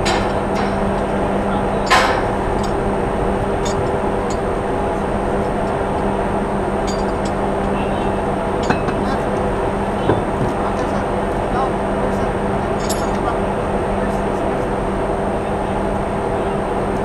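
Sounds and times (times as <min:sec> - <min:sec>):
ship machinery hum: 0:00.0 - 0:17.0.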